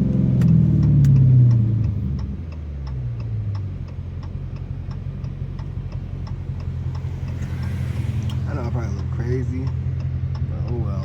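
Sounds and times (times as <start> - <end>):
car engine revving and running: 0.0 - 11.0
light ticking: 0.1 - 11.0.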